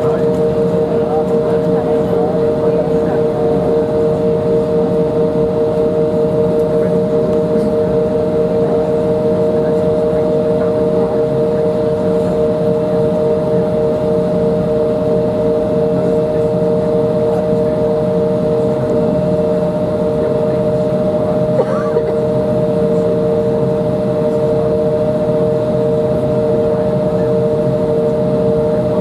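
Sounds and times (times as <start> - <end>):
jet engine cabin rumble: 0.0 - 29.0.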